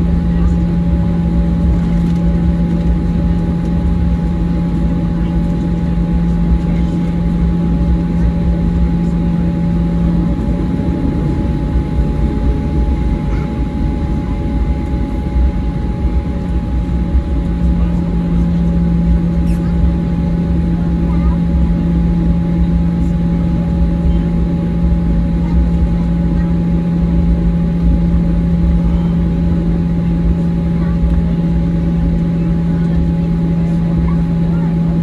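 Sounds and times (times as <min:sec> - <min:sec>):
constant hum: 0:00.0 - 0:35.0
high engine whine: 0:00.0 - 0:35.0
low engine rumble: 0:00.0 - 0:35.0.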